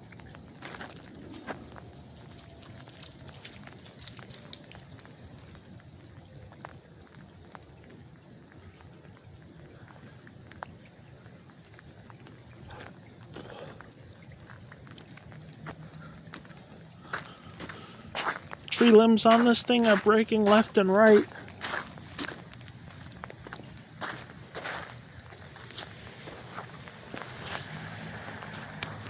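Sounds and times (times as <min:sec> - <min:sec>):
freezing rain ticking on ice: 0:00.0 - 0:29.0.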